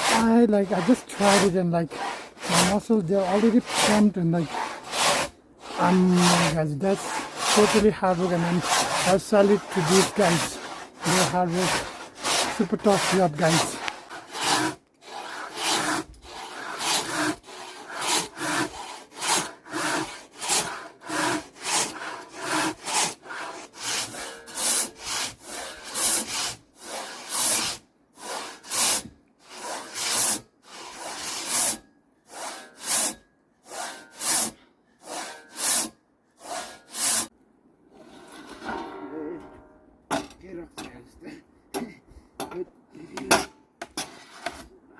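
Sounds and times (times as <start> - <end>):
hand saw cutting timber: 0.0 - 37.3, 43.1 - 44.7.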